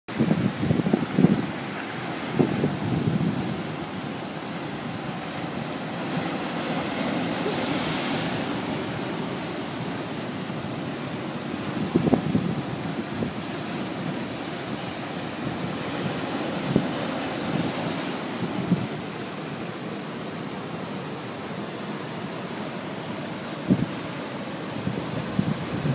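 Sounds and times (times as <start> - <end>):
wind buffeting microphone: 0.1 - 19.3, 23.4 - 25.9
surf breaking over rocks: 0.1 - 25.9.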